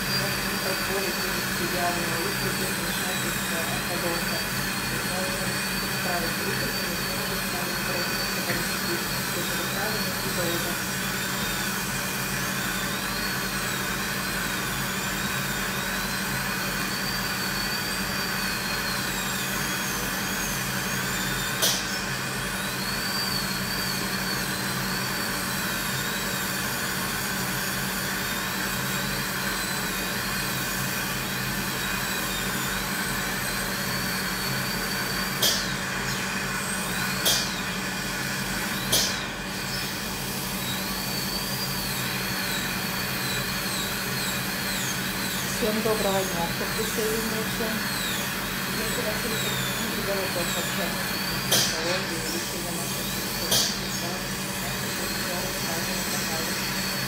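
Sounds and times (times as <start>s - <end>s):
dental drill whining: 0.0s - 57.0s.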